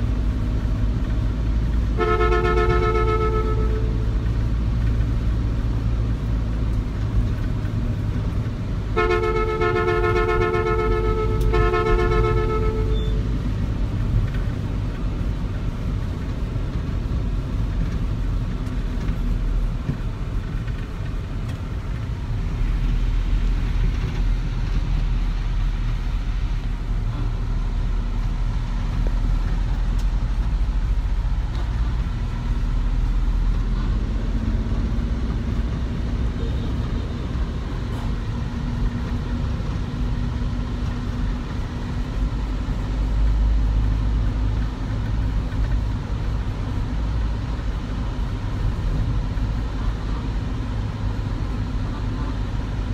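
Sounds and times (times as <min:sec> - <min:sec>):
road noise: 0:00.0 - 0:52.9
vehicle engine rumble: 0:00.0 - 0:52.9.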